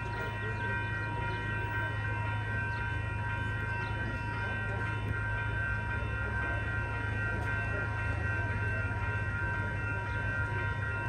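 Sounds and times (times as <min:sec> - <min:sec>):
diesel train rumble: 0:00.0 - 0:11.0.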